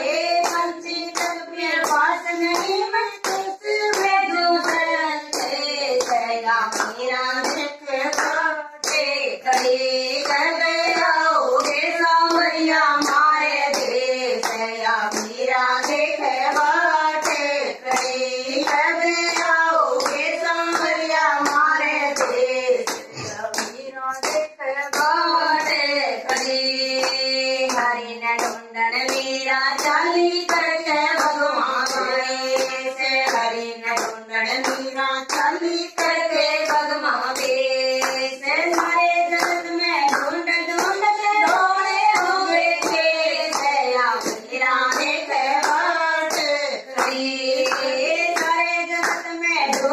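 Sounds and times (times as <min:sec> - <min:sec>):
hand-clapping: 0:00.0 - 0:49.9
women singing devotional song: 0:00.0 - 0:49.9.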